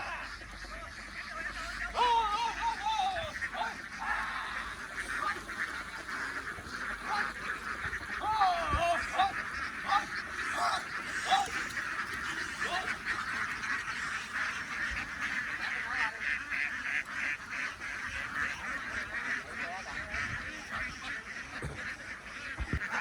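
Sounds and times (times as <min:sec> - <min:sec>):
flock of ducks quacking: 0:00.0 - 0:23.0.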